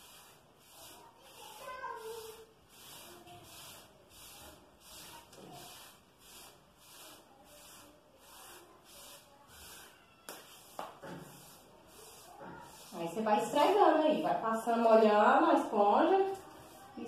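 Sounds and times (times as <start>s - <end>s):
sponge rasping on wall: 0.0s - 17.0s.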